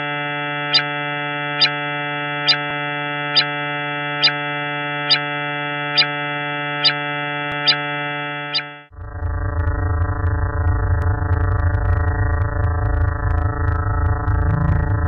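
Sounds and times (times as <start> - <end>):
electronic drone chord: 0.0 - 15.0.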